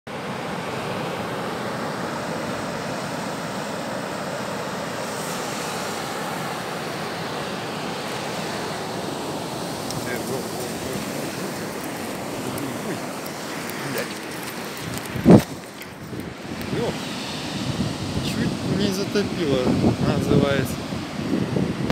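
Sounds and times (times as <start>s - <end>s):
surf waves roaring: 0.1s - 21.9s.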